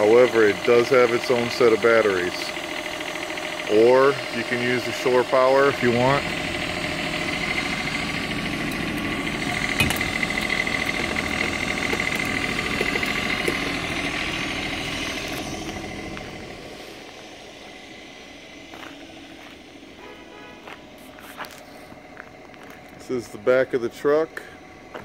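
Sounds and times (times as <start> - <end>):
diesel generator running: 0.0 - 25.0
high whine: 0.0 - 25.0.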